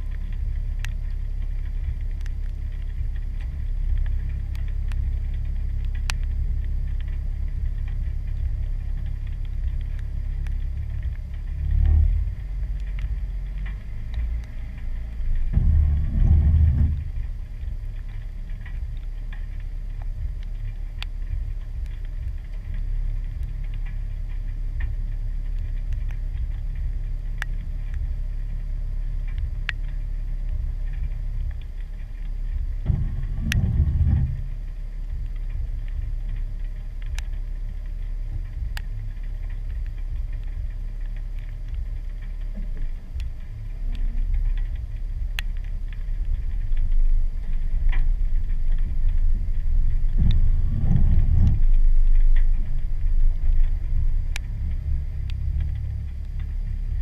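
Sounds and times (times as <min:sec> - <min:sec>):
engine running at low revs: 0:00.0 - 0:57.0.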